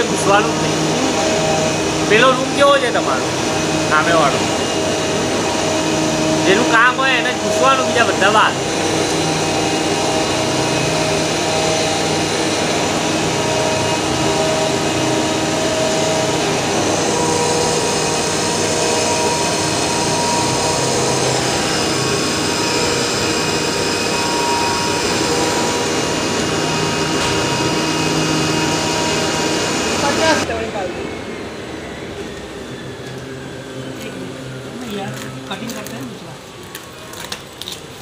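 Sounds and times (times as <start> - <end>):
cutting machine roaring: 0.0 - 38.0.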